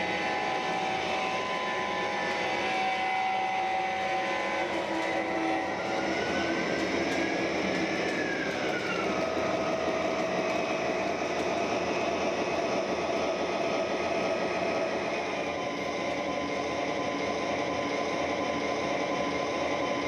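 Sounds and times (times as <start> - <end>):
diesel locomotive engine sound: 0.0 - 20.0
model train running noise: 0.0 - 20.0.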